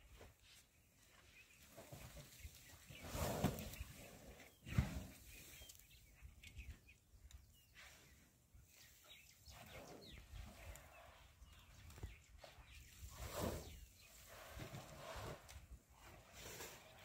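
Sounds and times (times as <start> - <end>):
faint bird chirps: 0.8 - 14.4.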